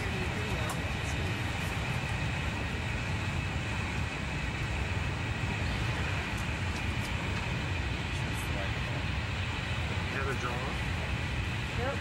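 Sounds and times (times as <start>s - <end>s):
train rumble inside passenger car: 0.0s - 12.0s.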